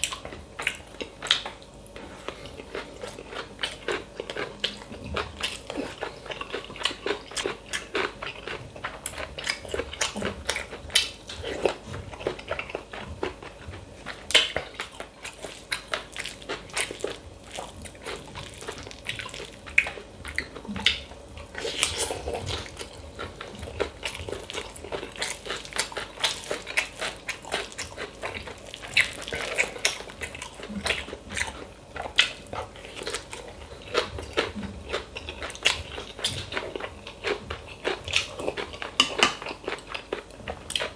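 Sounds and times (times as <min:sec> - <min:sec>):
man chewing food: 0:00.0 - 0:40.9.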